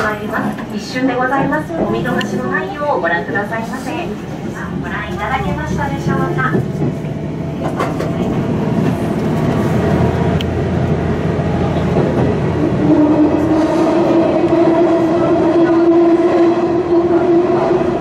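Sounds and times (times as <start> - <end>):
railcar engine and wheels rumbling: 0.0 - 18.0.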